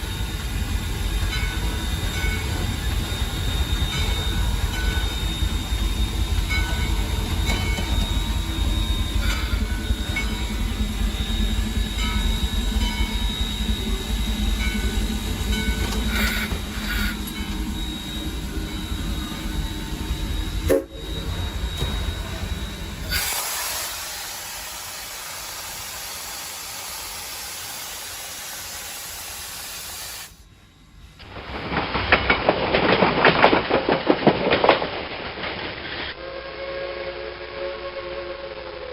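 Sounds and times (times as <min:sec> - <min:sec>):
steady steam hiss: 0:00.0 - 0:31.2
locomotive running rumble: 0:00.0 - 0:38.9.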